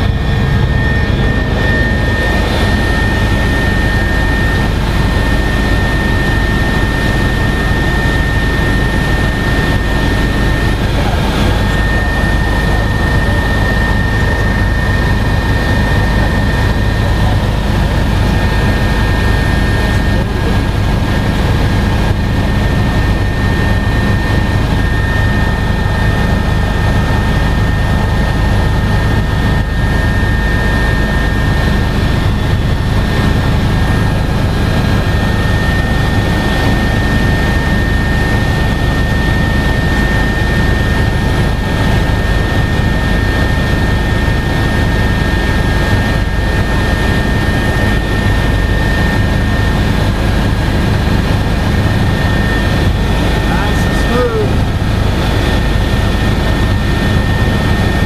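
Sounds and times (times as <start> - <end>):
helicopter engines and rotor: 0.0 - 58.0.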